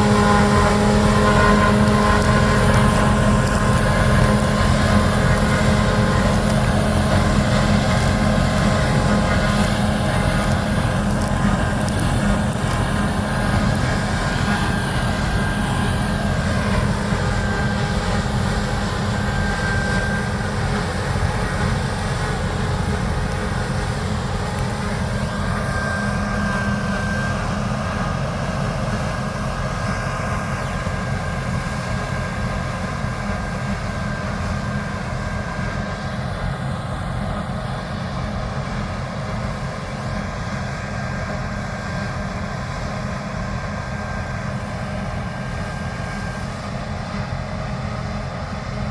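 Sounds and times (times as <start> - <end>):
diesel engine drone: 0.0 - 48.9
mechanical whine: 0.0 - 48.9.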